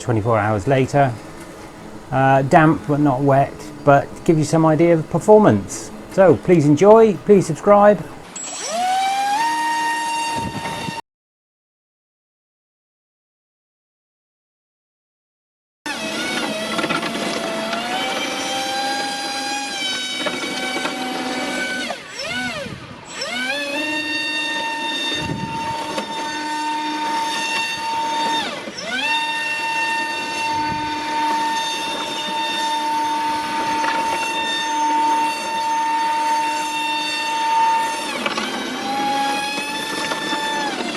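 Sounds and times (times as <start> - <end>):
rc airboat motor whine: 0.0 - 11.0, 15.9 - 40.9.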